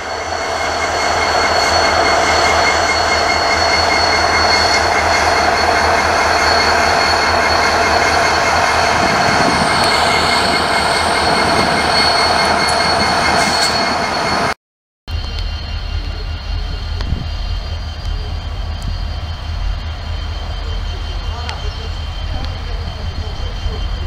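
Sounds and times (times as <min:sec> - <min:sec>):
high-pitched wheel squeal: 0:00.0 - 0:24.0.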